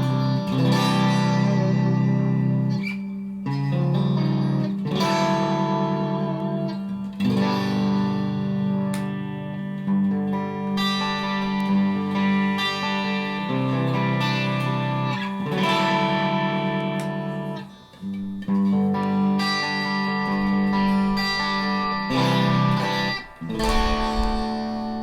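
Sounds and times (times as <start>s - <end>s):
electric guitar chords ringing: 0.0s - 25.0s.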